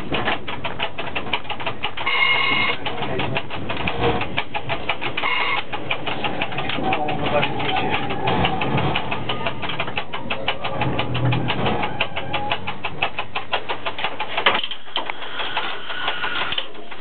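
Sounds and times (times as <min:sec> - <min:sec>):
rapid mechanical clicking: 0:00.0 - 0:17.0
steady mechanical noise: 0:00.0 - 0:17.0.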